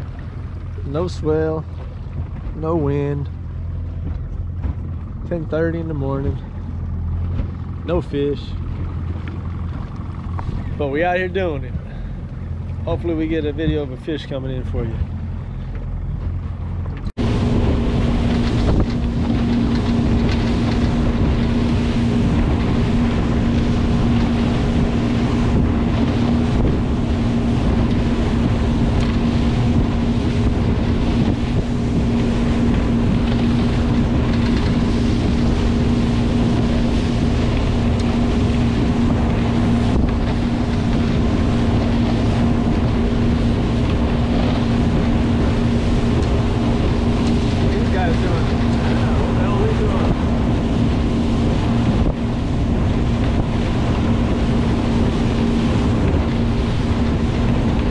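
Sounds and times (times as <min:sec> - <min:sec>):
outboard motor running: 0:00.0 - 0:57.9
water rushing along hull: 0:00.0 - 0:57.9
wind on microphone: 0:00.0 - 0:57.9.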